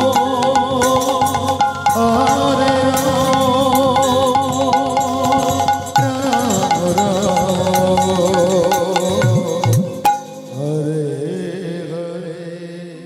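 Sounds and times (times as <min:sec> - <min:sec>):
hand cymbals: 0:00.0 - 0:10.8.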